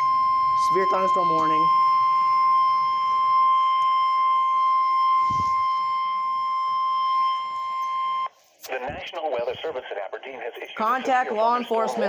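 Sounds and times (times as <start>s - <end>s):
steady weather radio alarm tone: 0.0s - 11.9s.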